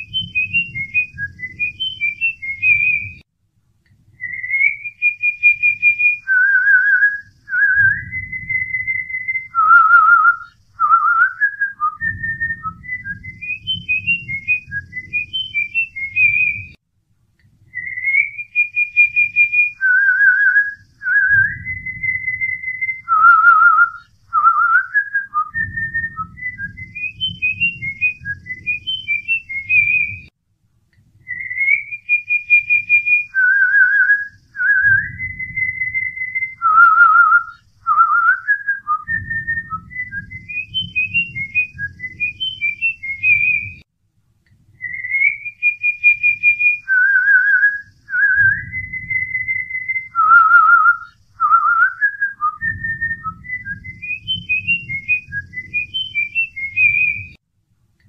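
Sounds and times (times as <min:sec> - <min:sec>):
whistled melody with trills: 0:00.0 - 0:03.2, 0:04.2 - 0:16.8, 0:17.7 - 0:30.3, 0:31.2 - 0:43.8, 0:44.8 - 0:57.4
low rumble: 0:00.0 - 0:04.8, 0:06.3 - 0:18.3, 0:19.8 - 0:31.8, 0:33.4 - 0:45.4, 0:46.9 - 0:57.4.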